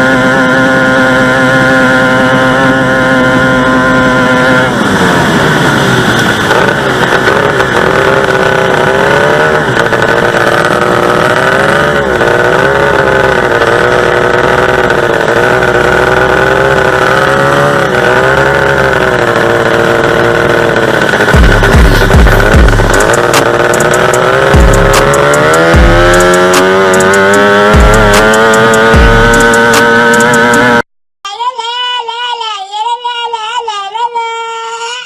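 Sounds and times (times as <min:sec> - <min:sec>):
boat engine at high revs: 0:00.0 - 0:30.9.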